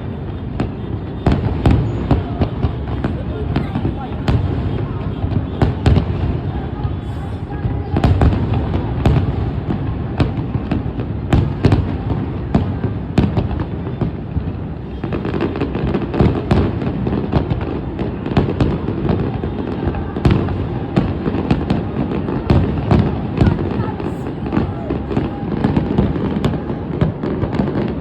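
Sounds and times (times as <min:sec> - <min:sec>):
fireworks bangs and crackles: 0:00.0 - 0:28.0
low rumble of firework bursts: 0:00.0 - 0:28.0.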